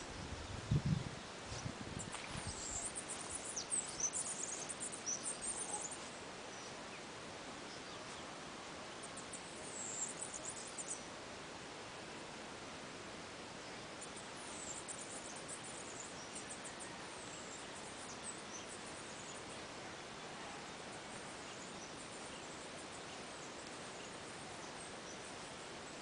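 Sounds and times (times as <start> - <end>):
steady faint hiss: 0.0 - 26.0.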